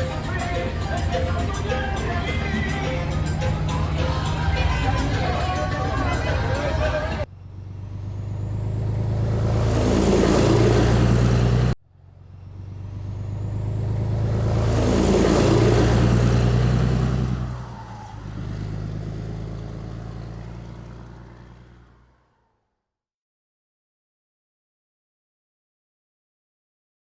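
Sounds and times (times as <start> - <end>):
rising whine: 0.0 - 21.9
truck engine accelerating: 0.0 - 22.5.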